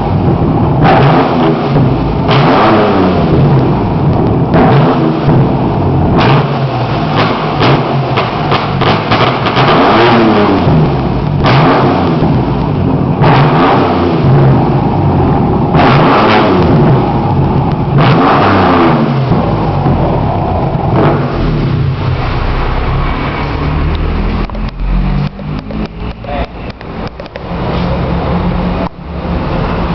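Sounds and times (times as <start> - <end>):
exhaust pops and crackles: 0.0 - 21.8, 23.9 - 27.5
car engine revving: 0.0 - 29.9.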